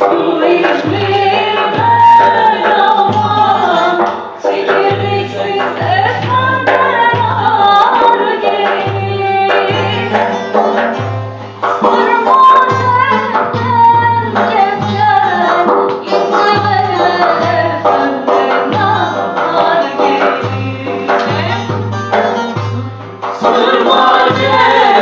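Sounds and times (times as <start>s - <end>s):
instrumental accompaniment: 0.0s - 25.0s
steady low drum beat: 0.0s - 25.0s
woman singing folk song: 0.0s - 25.0s.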